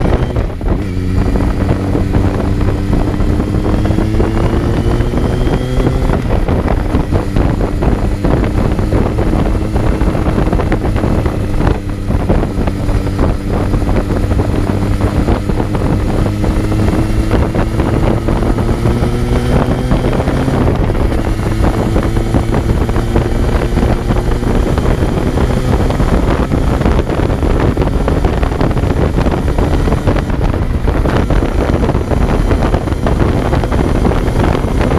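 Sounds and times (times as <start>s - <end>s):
motorcycle engine revving: 0.0s - 34.9s
wind noise: 0.0s - 34.9s.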